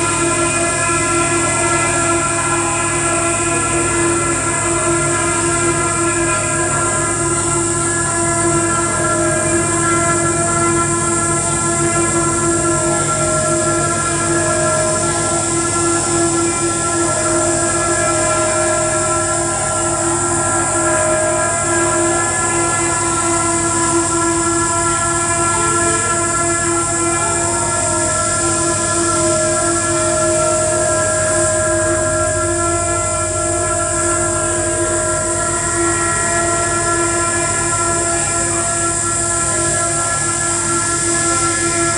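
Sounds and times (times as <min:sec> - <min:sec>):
electronic noise drone: 0:00.0 - 0:41.9.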